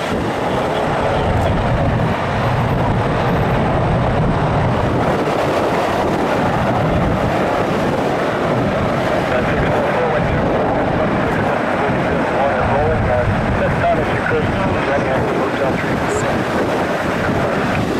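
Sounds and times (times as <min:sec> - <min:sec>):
jet engines roaring: 0:00.0 - 0:17.9.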